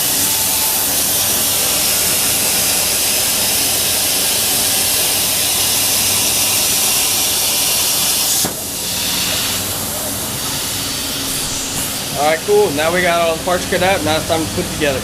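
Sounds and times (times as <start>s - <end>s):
plasma cutter torch hissing: 0.0s - 13.4s.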